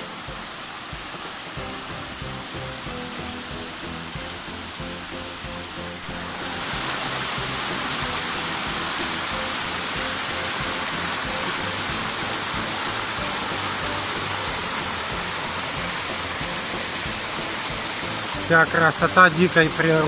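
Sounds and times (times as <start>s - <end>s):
soft background music: 0.0s - 20.0s
water rushing over rocks: 0.0s - 20.0s.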